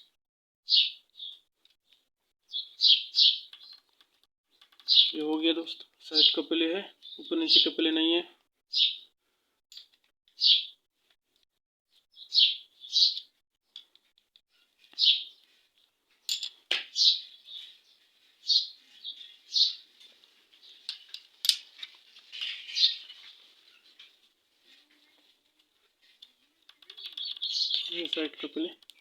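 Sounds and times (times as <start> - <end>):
small birds chirping: 0.7 - 9.2, 9.8 - 10.9, 11.9 - 29.0.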